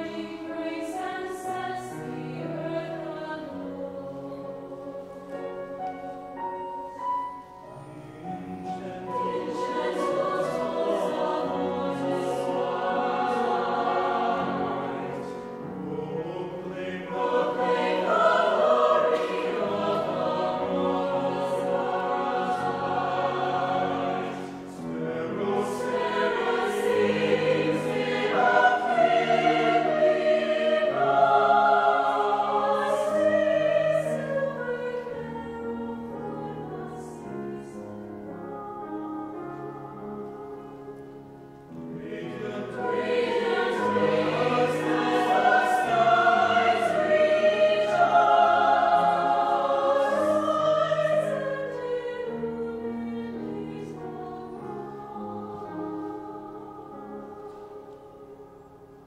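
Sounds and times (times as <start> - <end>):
choir singing: 0.0 - 59.0
piano accompaniment: 0.0 - 59.0.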